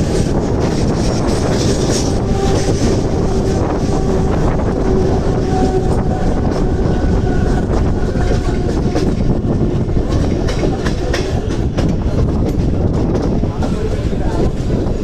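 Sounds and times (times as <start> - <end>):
rail joints clickety-clack: 0.0 - 15.0
train wheels rumbling on rail: 0.0 - 15.0.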